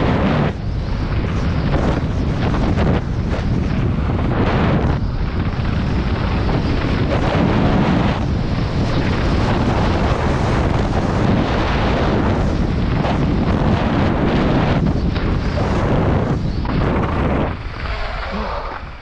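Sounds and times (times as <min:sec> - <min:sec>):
bike tyres on dirt and stones: 0:00.0 - 0:19.0
wind rushing over microphone: 0:00.0 - 0:19.0.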